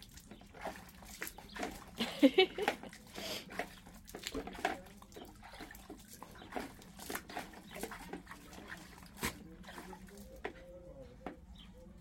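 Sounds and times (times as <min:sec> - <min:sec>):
dog splashing in water: 0:00.0 - 0:10.8.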